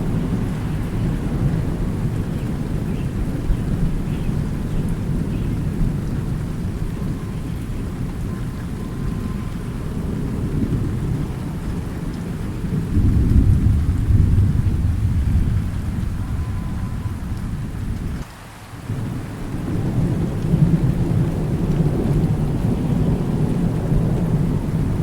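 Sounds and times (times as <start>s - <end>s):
distant thunder rumbling: 0.0s - 25.0s
rain falling: 0.0s - 25.0s.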